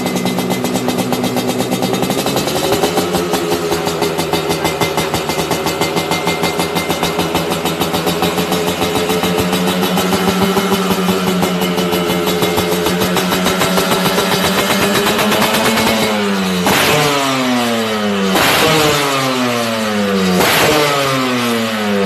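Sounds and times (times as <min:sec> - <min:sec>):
two-stroke motorcycle engine idling: 0:00.0 - 0:22.0.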